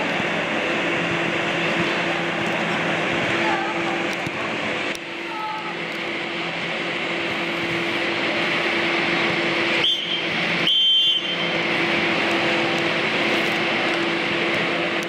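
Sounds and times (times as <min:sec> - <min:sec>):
blower fans humming: 0:00.0 - 0:15.0.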